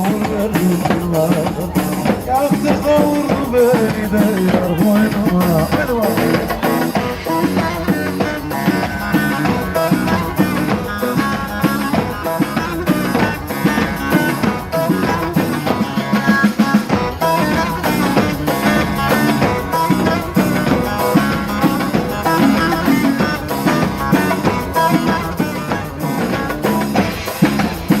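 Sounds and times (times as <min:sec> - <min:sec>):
instrumental folk music: 0:00.0 - 0:28.0
plucked string instruments: 0:00.0 - 0:28.0.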